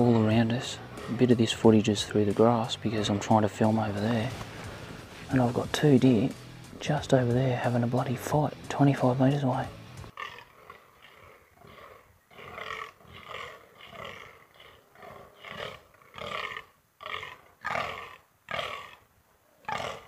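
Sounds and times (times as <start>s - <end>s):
deer buck croaking groans: 0.0s - 20.0s.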